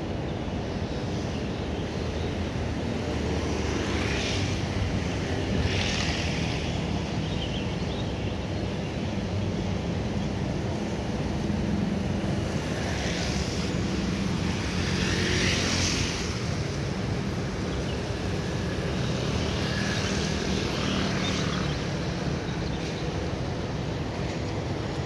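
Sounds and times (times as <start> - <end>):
car and motorbike engines: 0.0 - 25.0.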